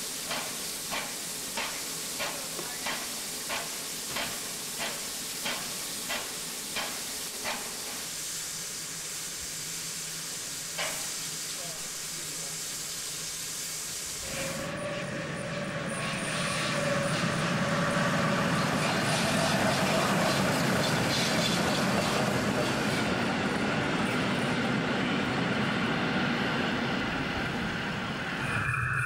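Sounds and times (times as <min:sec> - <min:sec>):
steam hiss: 0:00.0 - 0:27.0
steam locomotive exhaust and running gear: 0:00.0 - 0:29.0.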